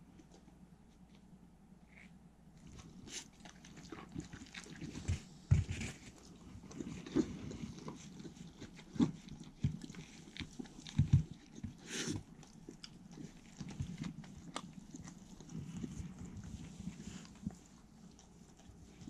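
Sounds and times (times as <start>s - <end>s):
dogs chewing and licking: 2.6s - 19.0s.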